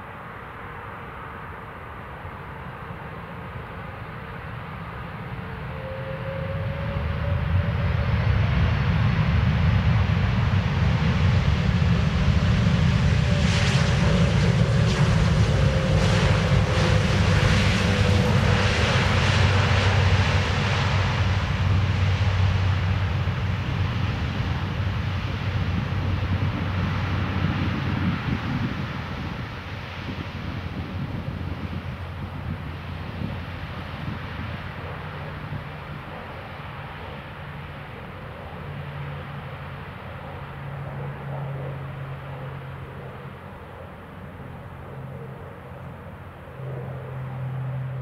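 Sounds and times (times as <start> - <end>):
faint jet engine whine: 0.0 - 48.0
jet airliner passing: 0.0 - 48.0.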